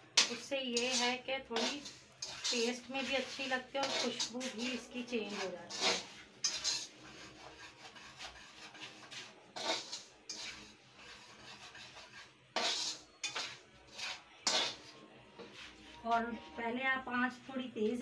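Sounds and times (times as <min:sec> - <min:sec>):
semolina scraping in metal pan: 0:00.0 - 0:16.6.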